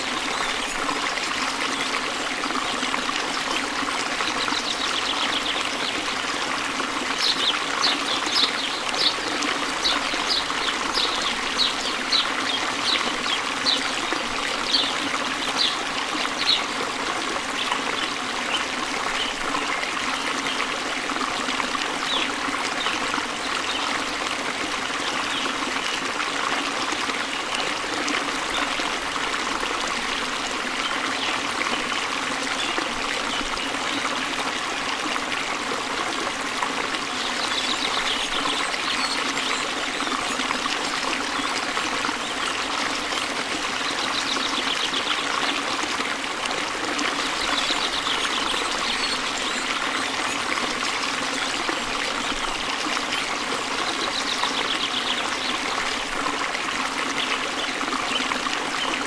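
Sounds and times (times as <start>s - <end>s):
waterfall pouring over rocks: 0.0s - 59.0s.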